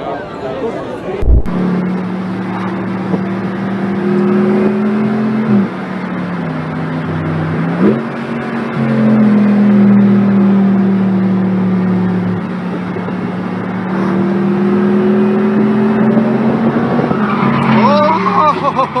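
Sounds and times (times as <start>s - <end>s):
car engine revving high: 1.2s - 19.0s.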